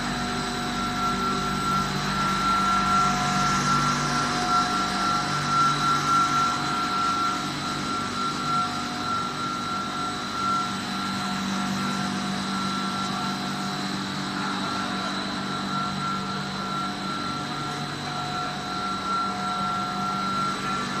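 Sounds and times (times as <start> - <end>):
industrial motor hum and whine: 0.0 - 21.0.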